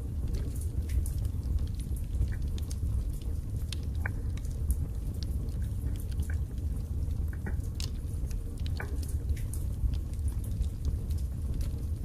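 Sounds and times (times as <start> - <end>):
fire crackling and popping: 0.0 - 12.0
low rumble of fire: 0.0 - 12.0.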